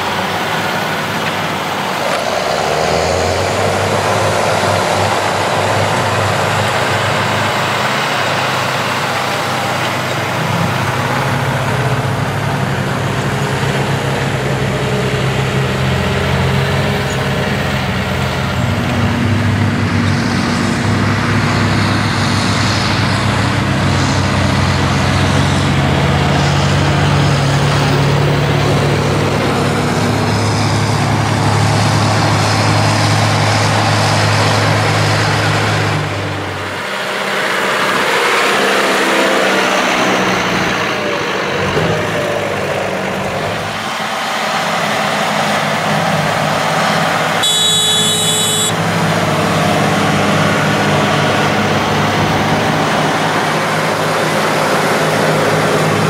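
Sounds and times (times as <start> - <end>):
tractor engines droning: 0.0 - 56.0.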